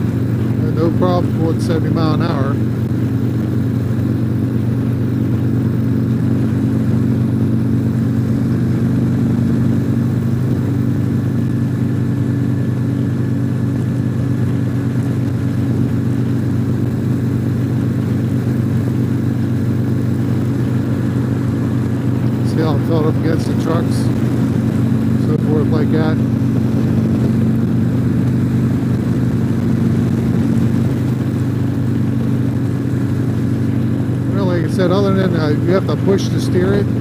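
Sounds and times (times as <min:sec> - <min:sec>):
motorcycle engine droning: 0:00.0 - 0:37.0.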